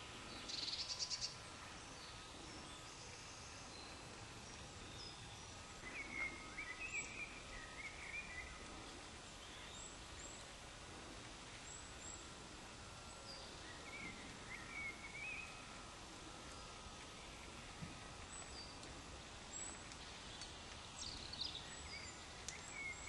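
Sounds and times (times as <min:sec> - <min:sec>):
low steady hiss: 0:00.0 - 0:23.0
songbirds twittering: 0:00.0 - 0:23.0.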